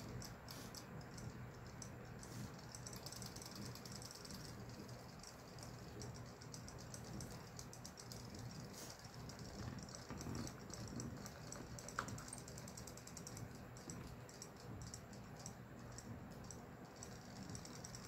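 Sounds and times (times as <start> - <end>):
toy motors clicking rattle: 0.0 - 18.0.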